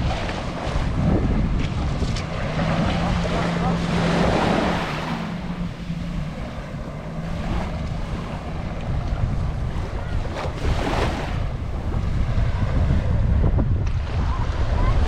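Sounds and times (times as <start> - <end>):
surf washing onto sandy beach: 0.0 - 15.0
wind rumbling on microphone: 0.0 - 15.0.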